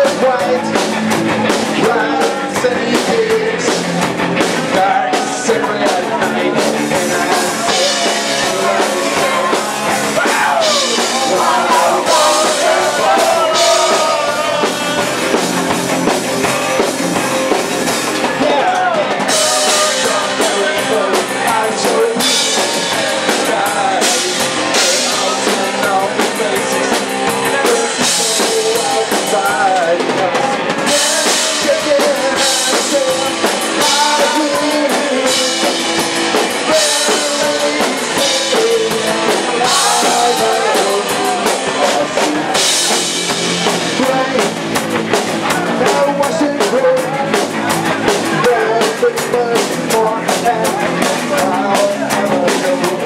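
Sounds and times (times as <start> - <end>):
distorted guitars and bass: 0.0 - 53.0
fast drum kit: 0.0 - 53.0
lead vocal singing: 0.0 - 53.0.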